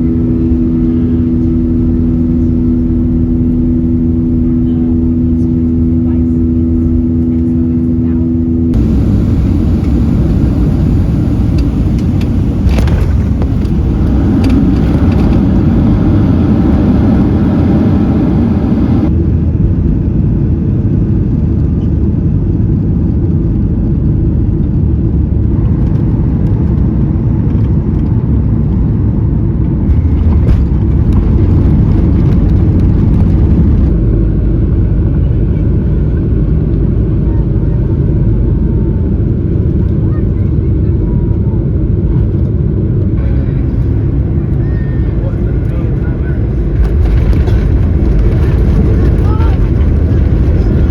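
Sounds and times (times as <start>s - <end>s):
jet airliner roar: 0.0s - 50.9s.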